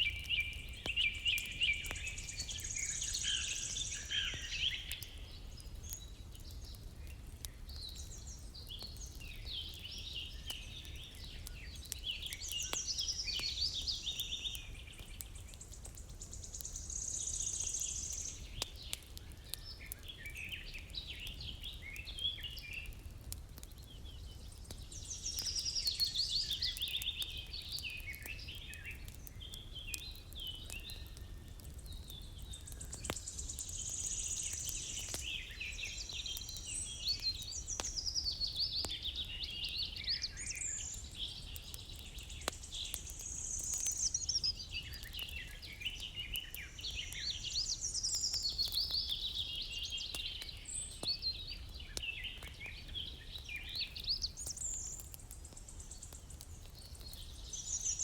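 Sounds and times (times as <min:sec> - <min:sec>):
songbirds chirping and trilling: 0:00.0 - 0:58.0
wood fire crackling: 0:00.0 - 0:58.0.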